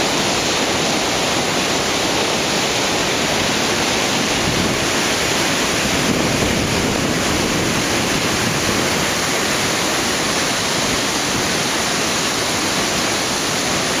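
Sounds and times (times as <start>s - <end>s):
river rushing over weir: 0.0s - 14.0s.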